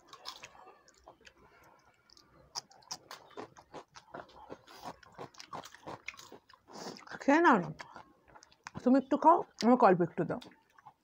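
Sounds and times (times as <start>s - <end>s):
chewing with mouth clicks: 0.0s - 9.8s, 10.4s - 11.0s.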